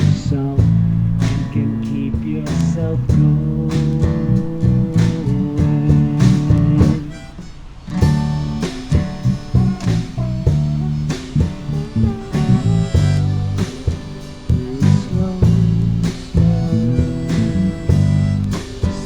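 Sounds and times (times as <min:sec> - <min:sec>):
band playing instrumental: 0:00.0 - 0:19.0
harmonica: 0:00.0 - 0:19.0.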